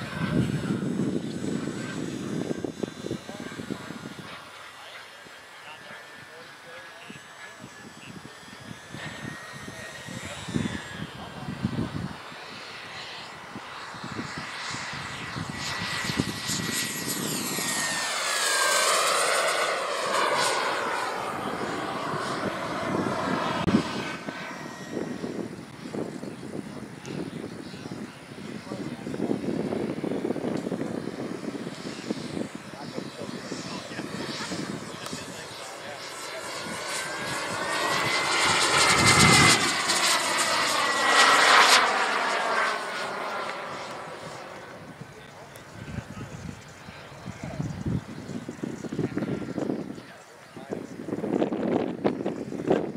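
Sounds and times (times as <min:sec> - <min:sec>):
model jet turbine whine: 0:00.0 - 0:52.9.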